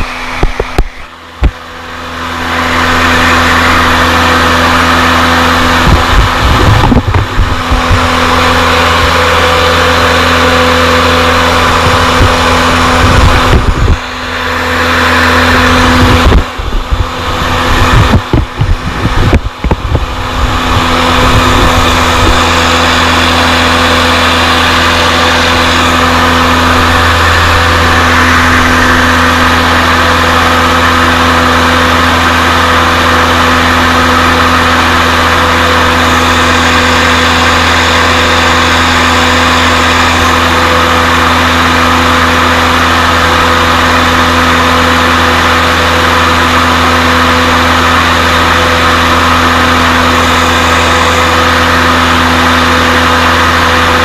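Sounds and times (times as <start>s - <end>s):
blower engine drone: 0.0s - 54.0s
rushing hiss of air and mulch: 1.8s - 54.0s.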